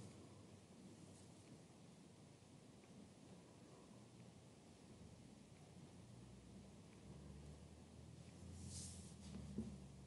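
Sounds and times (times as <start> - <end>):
soft hiss: 0.0 - 10.0.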